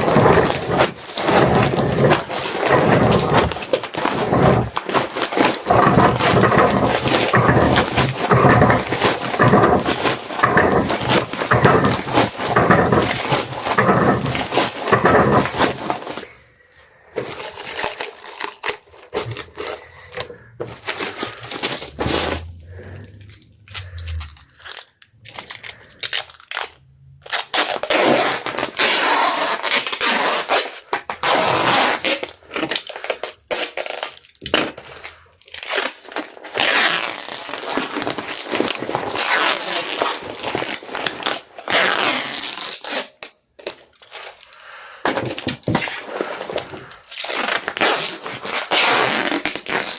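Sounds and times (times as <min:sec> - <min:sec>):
plastic wrap crinkling and tearing: 0:00.0 - 0:49.9.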